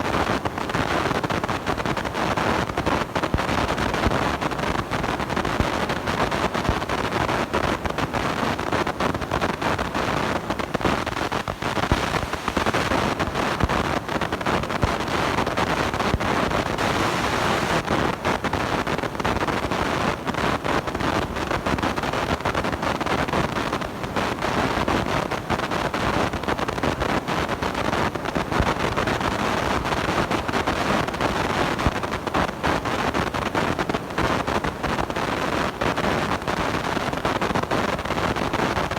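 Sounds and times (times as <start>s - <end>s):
crackle: 0.0s - 38.9s
harsh distorted microphone noise: 0.0s - 38.9s.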